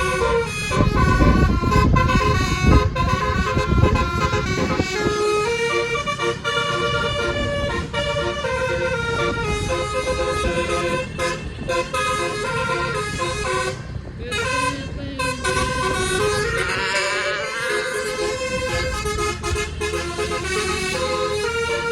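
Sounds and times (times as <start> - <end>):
musical bus horn tune: 0.0 - 21.9.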